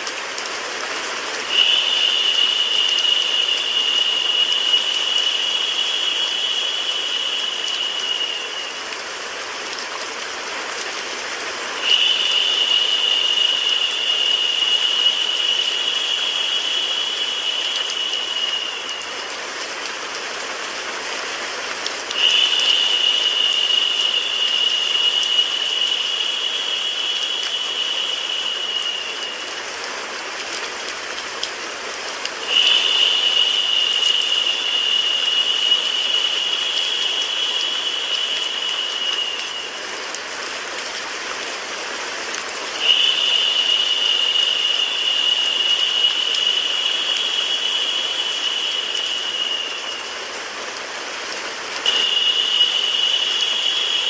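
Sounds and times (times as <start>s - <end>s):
rain hiss with white noise: 0.0s - 54.0s
high steady whine: 1.0s - 9.9s, 11.8s - 20.5s, 21.5s - 31.0s, 31.8s - 40.4s, 42.8s - 54.0s.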